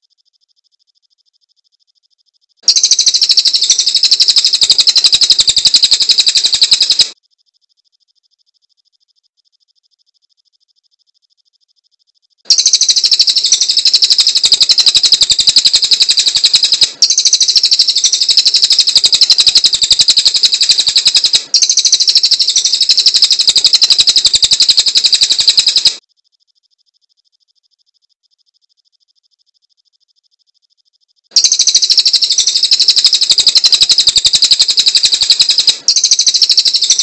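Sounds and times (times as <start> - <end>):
songbird high-pitched trill: 2.6 - 26.0, 26.6 - 37.0.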